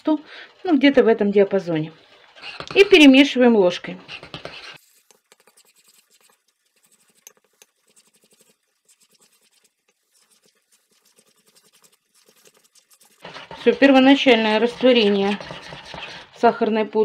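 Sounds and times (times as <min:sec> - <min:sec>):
spoon scraping glass bowl: 0:02.1 - 0:16.6.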